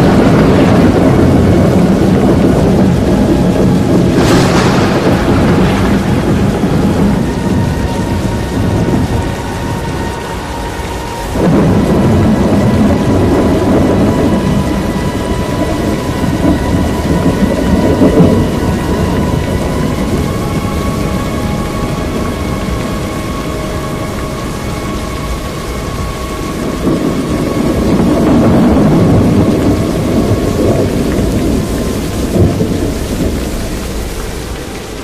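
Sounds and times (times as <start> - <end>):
heavy rain: 0.0 - 35.0
storm wind buffeting microphone: 0.0 - 35.0.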